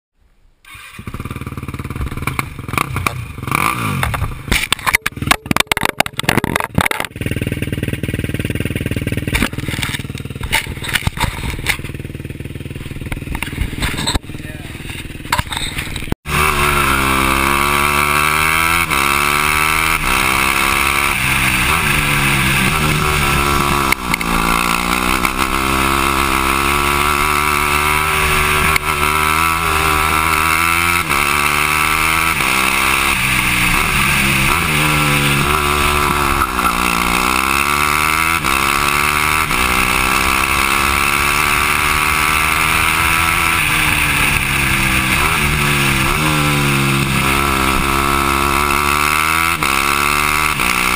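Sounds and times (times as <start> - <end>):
go-kart engine revving: 0.6 - 50.9.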